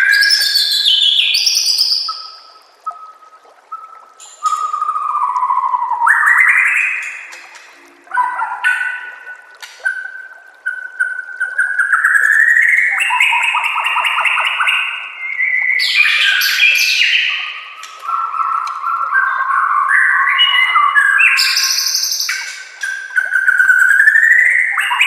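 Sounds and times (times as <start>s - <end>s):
bird singing whistled phrases and trills: 0.0s - 7.4s, 8.0s - 25.0s.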